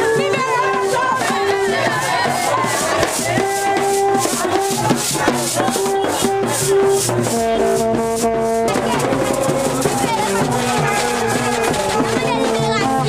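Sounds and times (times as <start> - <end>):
hand drums: 0.0 - 13.0
horns playing held notes: 0.0 - 13.0
shaker rhythm: 0.0 - 13.0.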